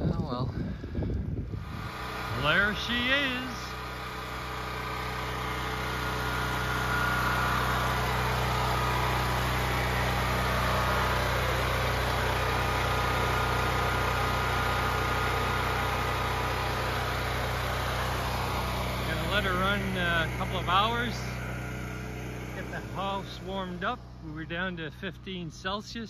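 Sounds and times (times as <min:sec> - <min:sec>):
generator running: 0:00.0 - 0:26.0.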